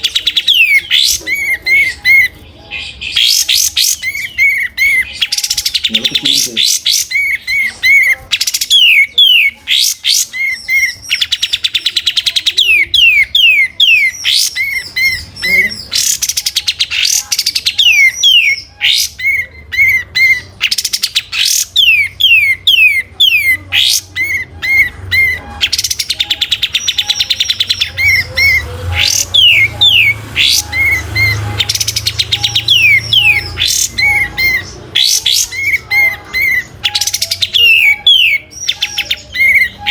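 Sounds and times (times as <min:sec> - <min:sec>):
songbird singing loudly: 0:00.0 - 0:39.9.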